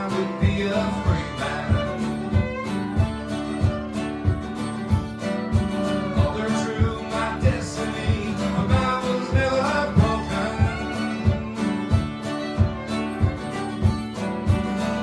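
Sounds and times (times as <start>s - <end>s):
acoustic folk band playing: 0.0s - 15.0s
strummed acoustic guitar: 0.0s - 15.0s.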